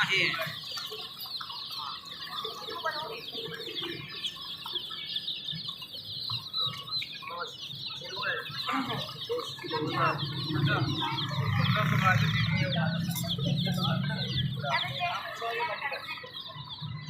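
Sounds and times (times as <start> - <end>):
chicken clucks: 0.0 - 17.0
chicks peeping: 0.0 - 17.0.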